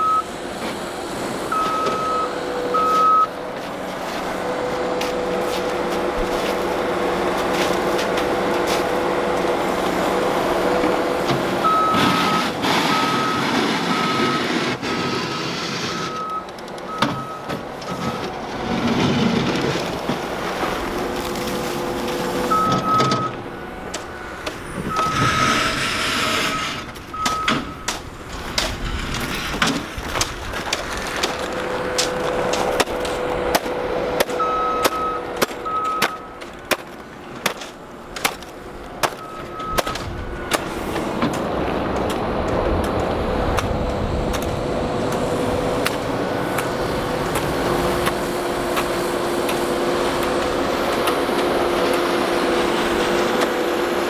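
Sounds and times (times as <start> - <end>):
diesel engine running: 0.0 - 54.0
ice scraping off sidewalk: 0.3 - 16.8, 17.7 - 22.6, 23.4 - 54.0.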